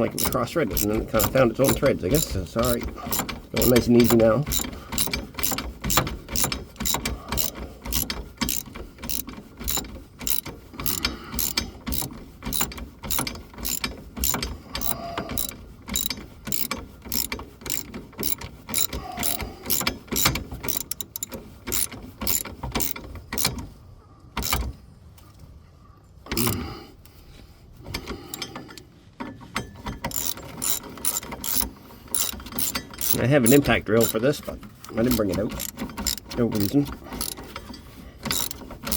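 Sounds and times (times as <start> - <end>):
socket ratchet clicking: 0.0 - 23.6, 24.4 - 24.6, 30.0 - 34.2, 34.8 - 37.5, 38.3 - 38.9.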